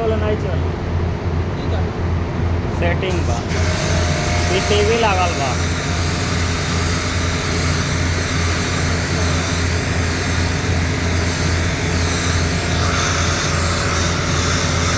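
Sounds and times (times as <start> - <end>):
air conditioner fan rushing: 0.0 - 14.9.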